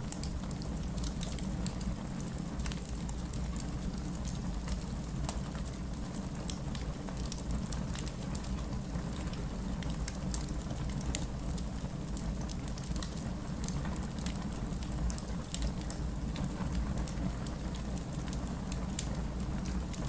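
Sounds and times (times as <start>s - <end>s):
fire popping and snapping: 0.0s - 20.0s.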